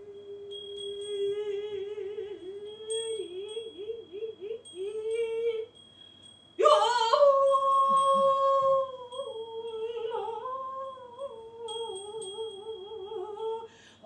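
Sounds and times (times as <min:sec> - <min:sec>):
woman singing without words: 0:00.0 - 0:05.8, 0:06.6 - 0:14.0.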